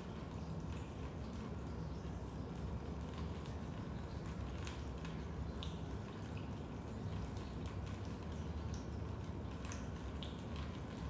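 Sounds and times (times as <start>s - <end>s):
water drops ticking and plinking: 0.0s - 11.0s.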